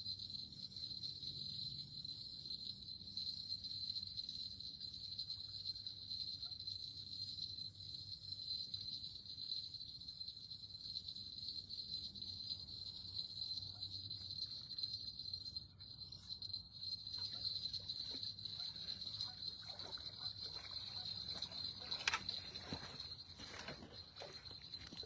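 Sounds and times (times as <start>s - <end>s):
night insects chorus: 0.0s - 25.0s.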